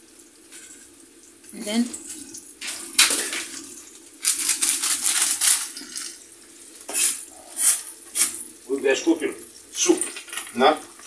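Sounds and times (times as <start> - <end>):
onions sizzling in a pan: 0.0 - 4.5, 5.3 - 11.0.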